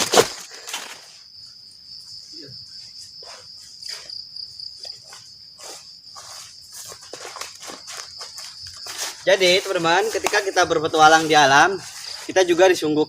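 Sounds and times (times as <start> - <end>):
crickets chirring: 0.0 - 13.0
footsteps on forest floor: 2.1 - 12.9.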